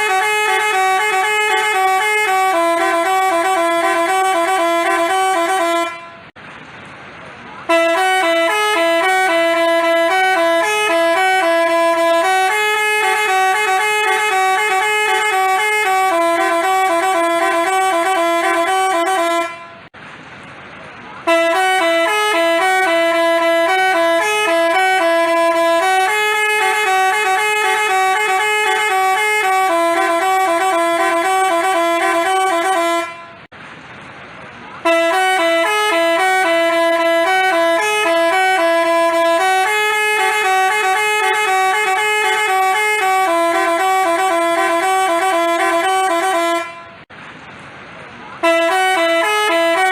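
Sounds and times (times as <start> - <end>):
multi-tone bus horn playing a tune: 0.0 - 6.4, 7.5 - 20.0, 21.1 - 33.5, 34.8 - 47.1, 48.3 - 49.9.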